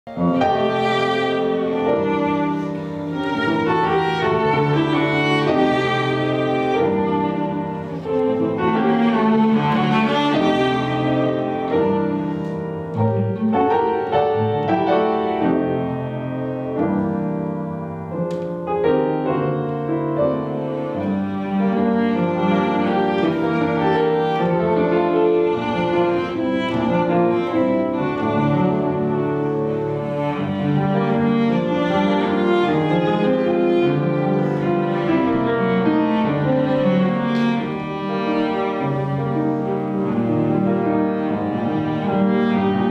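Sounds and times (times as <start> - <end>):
cello: 0.0 - 42.9
piano: 0.0 - 42.9
violin: 0.1 - 42.9.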